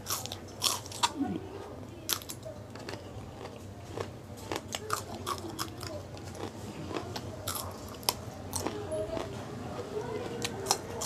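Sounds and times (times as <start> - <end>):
chewing raw chilli crunches: 0.0 - 1.3, 2.1 - 11.0.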